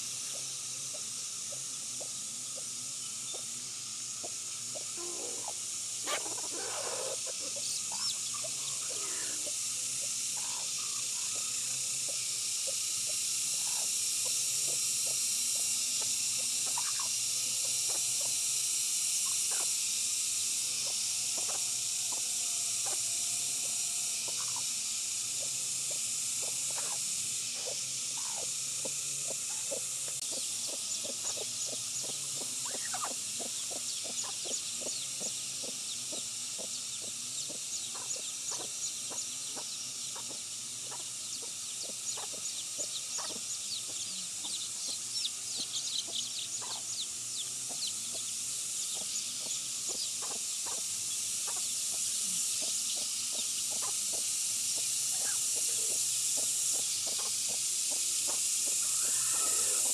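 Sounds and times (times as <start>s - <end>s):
chickens clucking: 0.0s - 18.5s, 19.2s - 20.0s, 20.8s - 59.9s
steady high hiss: 0.0s - 59.9s.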